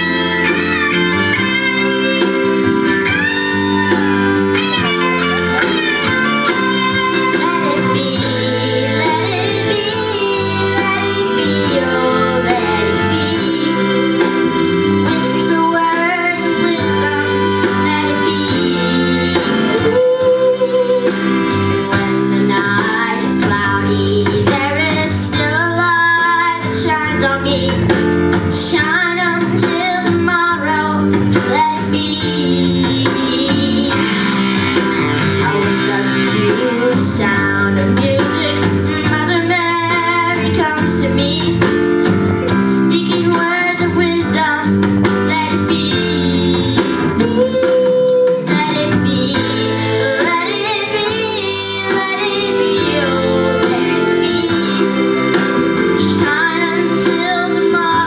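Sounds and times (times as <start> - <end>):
guitar accompaniment: 0.0 - 58.0
woman singing: 3.1 - 41.7, 42.5 - 58.0.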